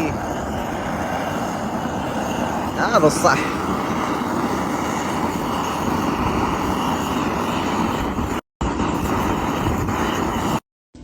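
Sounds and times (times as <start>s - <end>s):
steady loud rushing noise: 0.0s - 10.6s.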